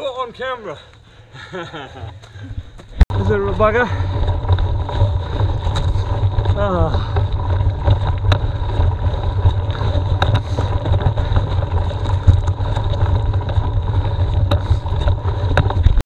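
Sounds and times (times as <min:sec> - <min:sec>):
bike knocking over bumps: 0:02.7 - 0:16.0.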